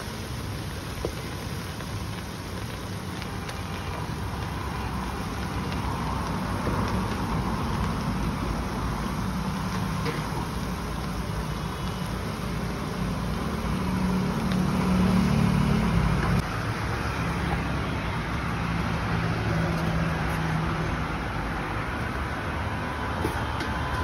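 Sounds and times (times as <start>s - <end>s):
gas burner rumbling: 0.0s - 24.0s
liquid bubbling at a boil: 0.0s - 24.0s.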